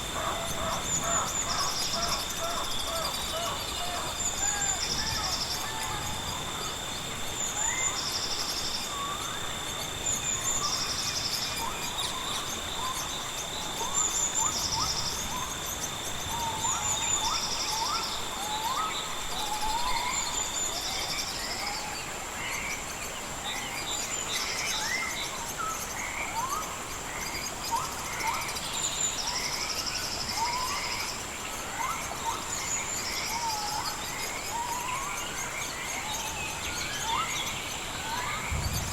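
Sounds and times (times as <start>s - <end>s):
gentle rain hiss: 0.0s - 38.9s
insects trilling: 0.0s - 38.9s.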